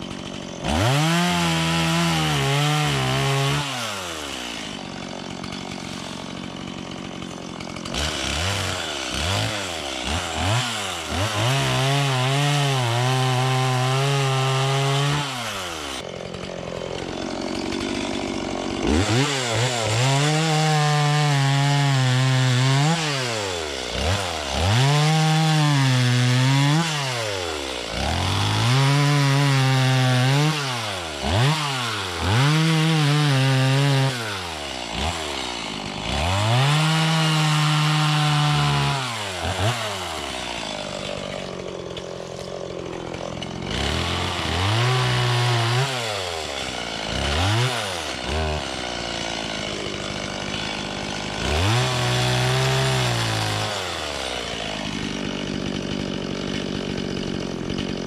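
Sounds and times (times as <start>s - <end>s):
chainsaw cutting logs: 0.0s - 58.0s.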